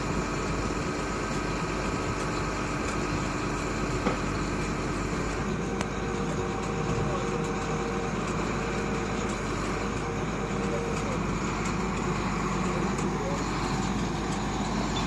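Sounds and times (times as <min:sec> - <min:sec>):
drilling rig engine drone: 0:00.0 - 0:15.0.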